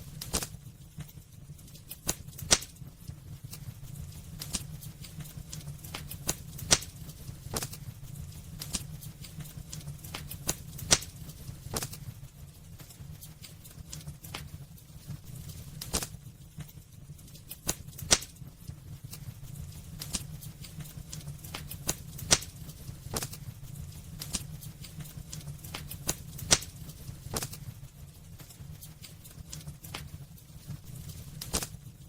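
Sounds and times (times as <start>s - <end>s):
burning wood crackling and popping: 0.0s - 32.0s
fire flame rumbling: 0.0s - 32.0s.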